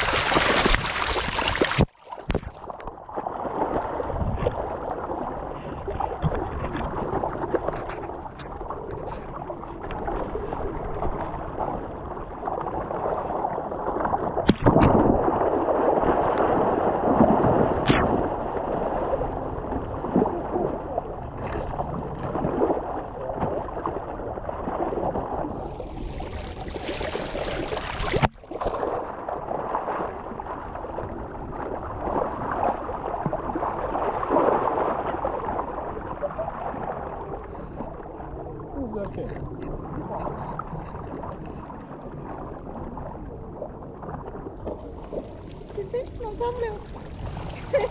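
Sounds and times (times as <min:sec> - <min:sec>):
water splashing and gurgling: 0:00.0 - 0:47.9.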